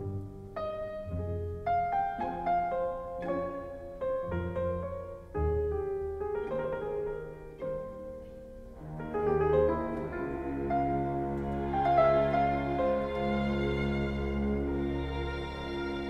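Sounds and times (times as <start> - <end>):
calm piano music: 0.0 - 16.0.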